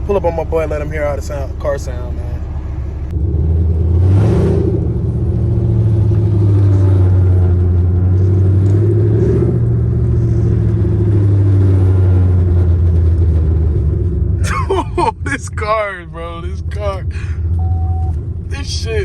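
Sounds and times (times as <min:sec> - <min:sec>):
car exhaust drone: 0:00.0 - 0:19.0.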